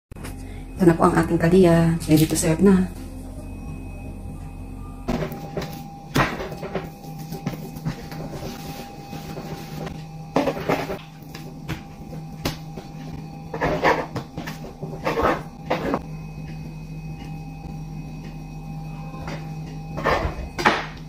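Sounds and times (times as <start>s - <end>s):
faint steady hum: 0.2s - 21.0s.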